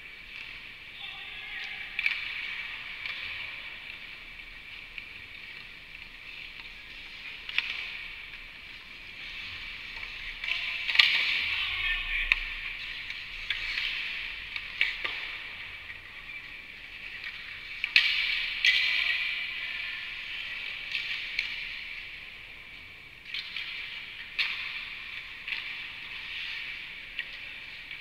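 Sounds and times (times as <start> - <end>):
hockey sticks and pucks clacking: 0.0 - 28.0.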